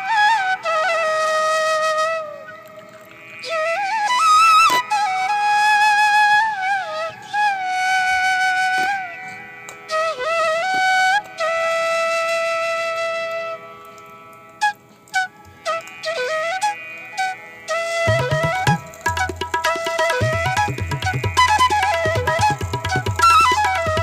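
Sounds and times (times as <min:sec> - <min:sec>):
flute playing slow melody: 0:00.0 - 0:24.0.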